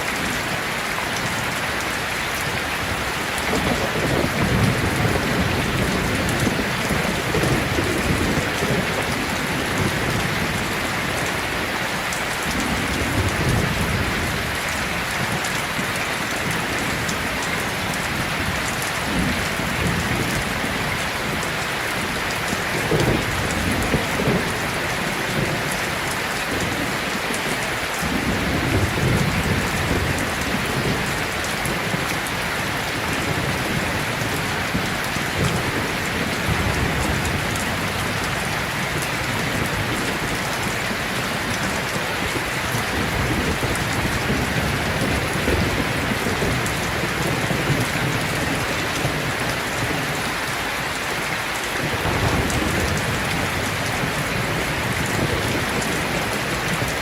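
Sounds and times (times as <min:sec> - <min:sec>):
heavy rain falling: 0:00.0 - 0:57.0
low thunder rumbling: 0:02.4 - 0:50.5, 0:51.8 - 0:57.0.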